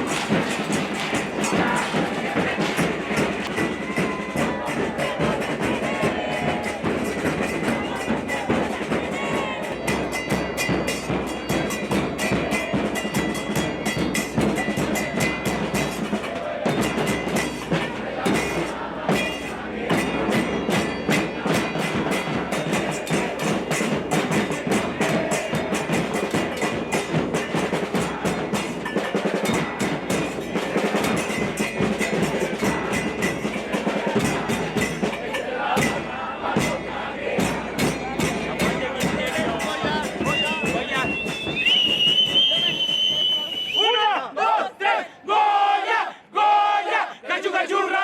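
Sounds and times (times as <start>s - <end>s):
drums pounding fast beat: 0.0s - 44.0s.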